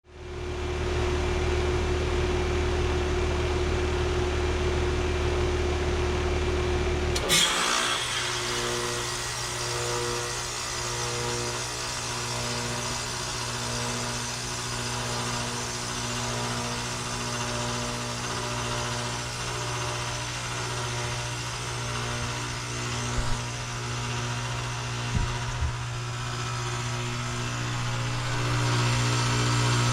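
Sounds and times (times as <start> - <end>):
heat pump unit humming: 0.2 - 29.9.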